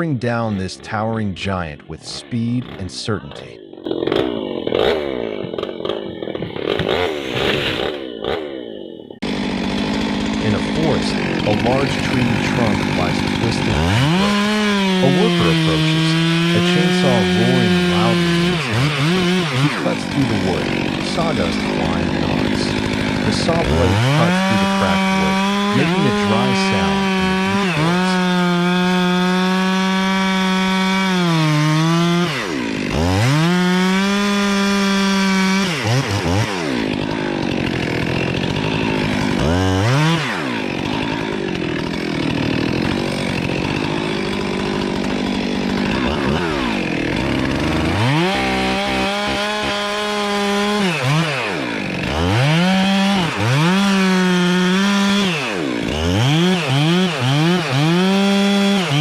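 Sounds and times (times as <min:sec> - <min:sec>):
chainsaw revving: 0:00.0 - 0:59.0
chain cutting through wood: 0:02.1 - 0:59.0.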